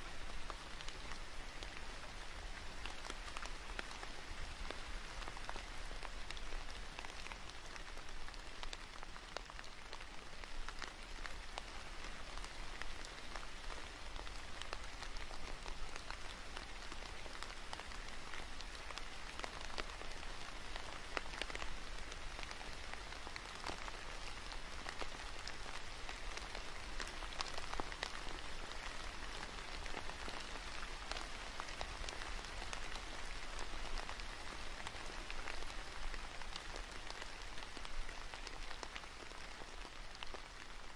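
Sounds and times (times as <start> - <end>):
steady rain falling: 0.0 - 40.9
raindrop ticks: 2.8 - 40.7.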